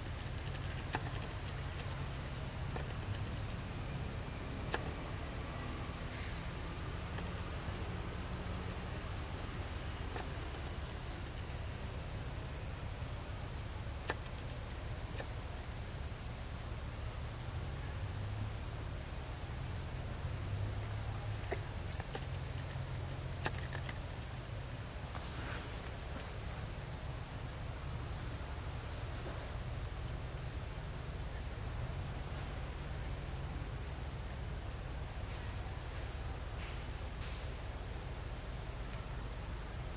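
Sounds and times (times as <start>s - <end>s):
high insect chirp: 0.0s - 39.9s
insects trilling: 0.0s - 39.9s.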